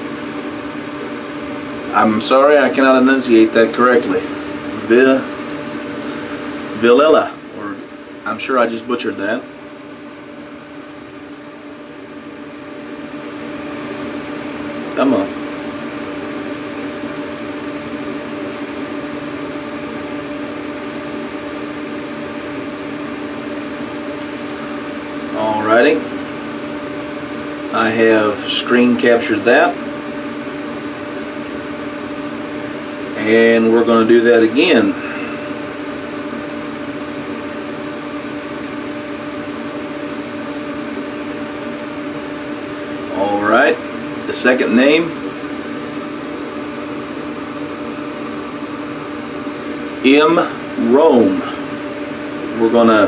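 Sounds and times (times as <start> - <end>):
ventilation fan humming: 0.0 - 53.0.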